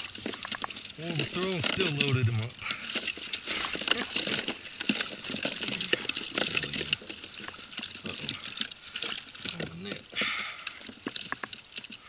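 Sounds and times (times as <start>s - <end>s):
water pouring and dripping: 0.0s - 12.0s.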